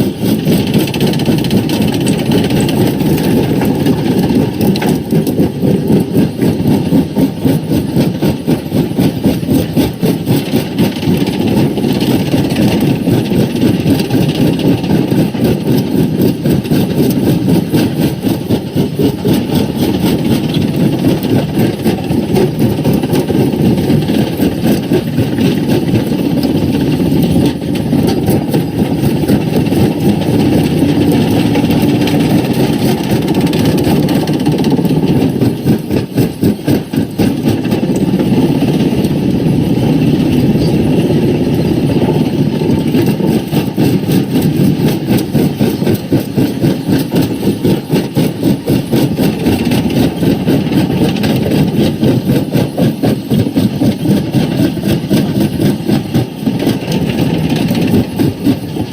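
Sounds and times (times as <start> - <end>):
heavy machine drone: 0.0 - 58.9.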